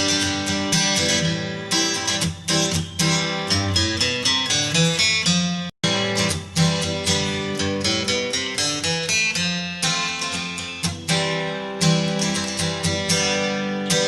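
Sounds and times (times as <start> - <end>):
acoustic guitar plucked and strummed: 0.0 - 14.0.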